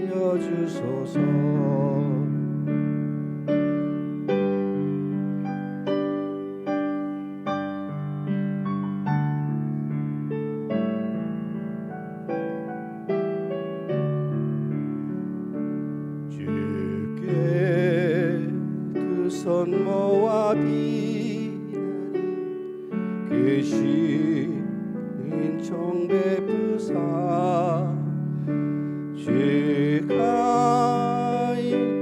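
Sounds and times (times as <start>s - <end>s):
gentle piano melody over chords: 0.0s - 32.0s.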